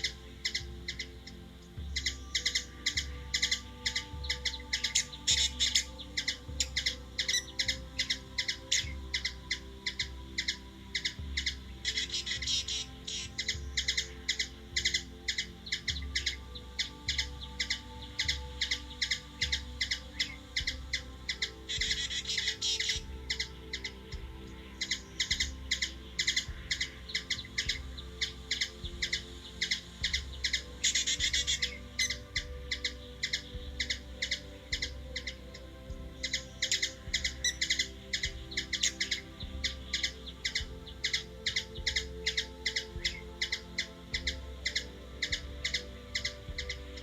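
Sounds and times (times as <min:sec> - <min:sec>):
bird chirping: 0:00.0 - 0:47.0.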